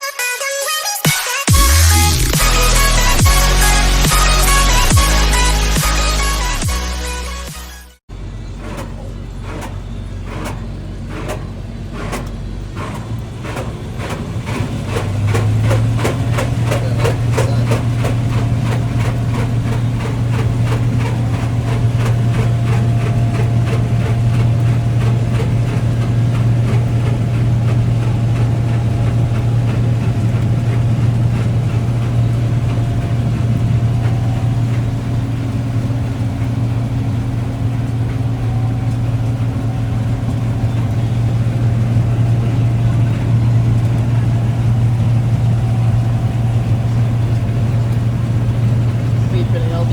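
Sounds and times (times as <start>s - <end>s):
diesel engine running: 0.1s - 49.9s.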